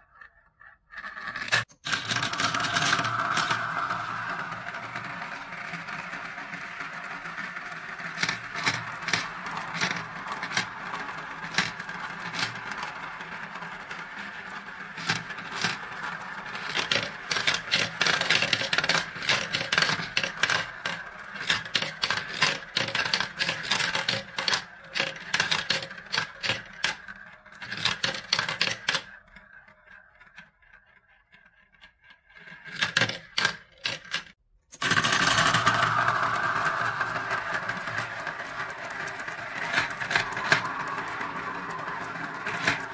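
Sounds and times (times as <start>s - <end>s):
marbles rolling whirr: 0.3s - 42.9s
marbles clicking along track: 1.0s - 42.9s.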